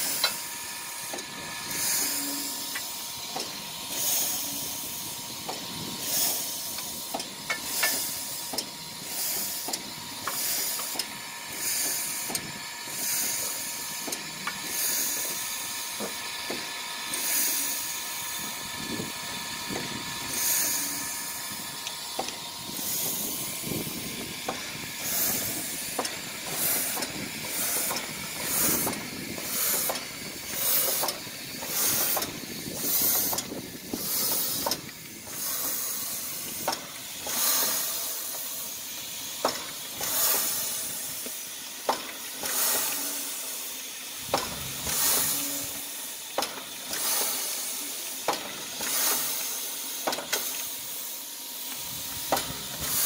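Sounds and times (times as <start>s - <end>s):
steady steam hiss: 0.0s - 53.0s
steam locomotive exhaust bursts: 0.0s - 53.0s.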